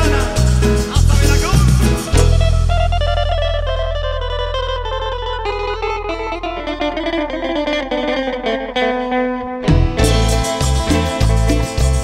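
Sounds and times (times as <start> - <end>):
electric guitar solo: 1.9 - 12.0.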